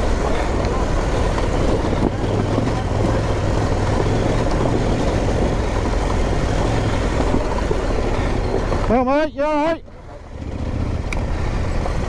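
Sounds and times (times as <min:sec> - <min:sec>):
motorcycle engine running: 0:00.0 - 0:09.2, 0:09.8 - 0:12.0
steady rushing noise: 0:00.0 - 0:12.0.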